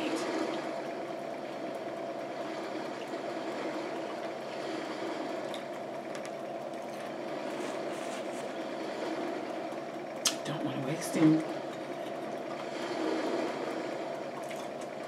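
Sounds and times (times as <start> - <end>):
mechanical room hum: 0.0 - 15.0.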